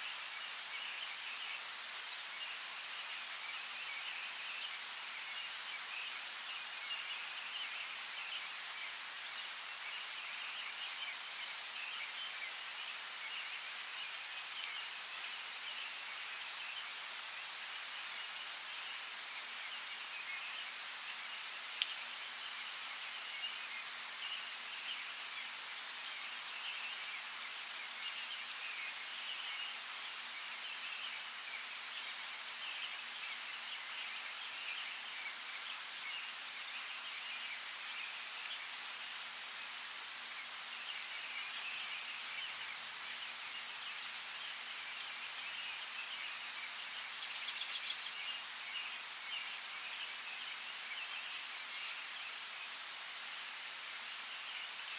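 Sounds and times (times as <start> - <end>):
steady rain hiss: 0.0 - 54.9
small birds chirping: 0.1 - 54.9.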